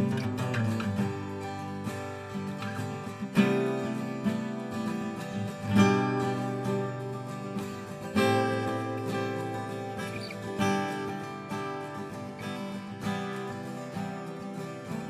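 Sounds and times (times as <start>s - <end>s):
acoustic guitars strumming chords: 0.0s - 15.0s
picked guitar notes: 0.0s - 15.0s.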